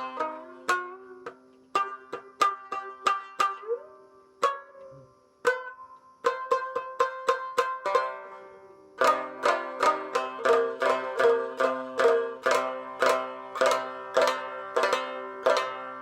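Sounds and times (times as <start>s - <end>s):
plucked shamisen notes: 0.0s - 16.0s.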